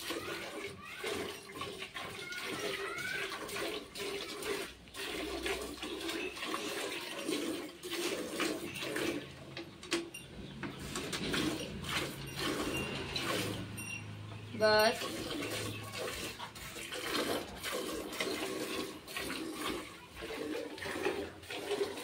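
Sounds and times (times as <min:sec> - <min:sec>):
milk squirting into bucket: 0:00.0 - 0:09.6, 0:10.8 - 0:13.8, 0:15.0 - 0:22.0.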